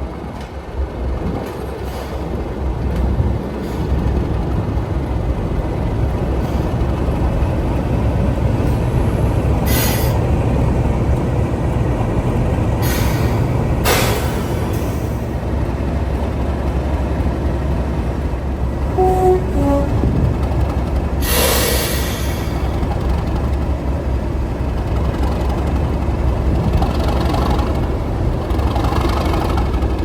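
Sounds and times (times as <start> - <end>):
diesel locomotive engine rumbling: 0.0 - 30.0.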